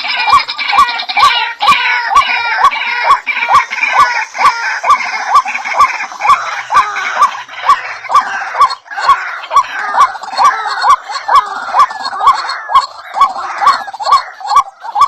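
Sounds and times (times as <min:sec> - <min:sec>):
chatter of many birds: 0:00.0 - 0:15.0.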